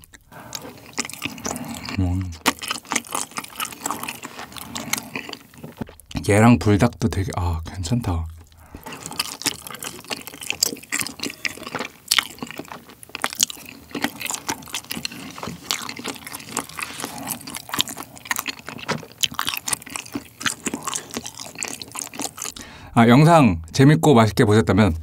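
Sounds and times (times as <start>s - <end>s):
wet sticky chewing: 0.0s - 6.2s, 8.3s - 22.7s.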